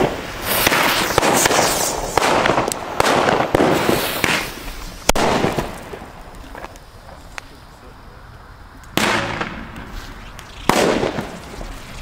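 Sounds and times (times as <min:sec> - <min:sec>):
fireworks bangs: 0:00.0 - 0:07.9, 0:08.8 - 0:12.0
firecrackers crackling and hissing: 0:00.0 - 0:12.0.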